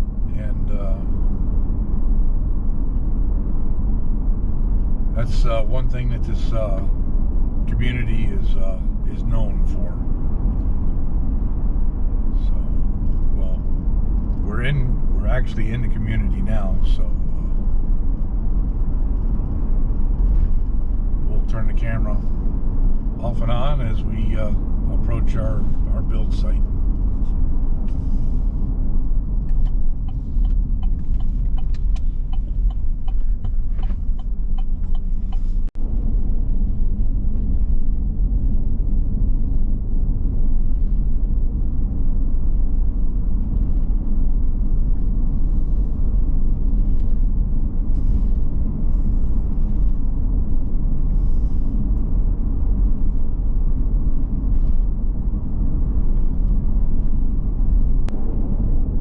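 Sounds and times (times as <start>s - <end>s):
road and engine rumble in car: 0.0s - 59.0s.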